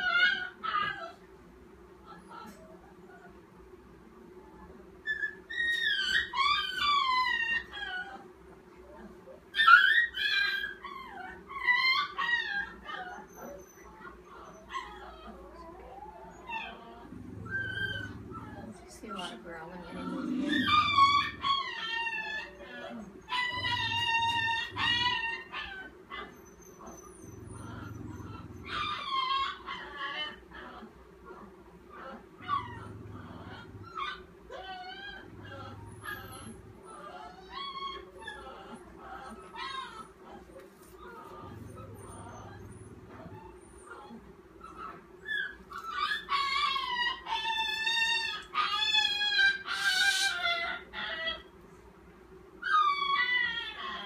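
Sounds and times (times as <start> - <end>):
puppy whining: 0.0 - 1.3, 2.0 - 3.6, 4.4 - 51.7, 52.6 - 54.0.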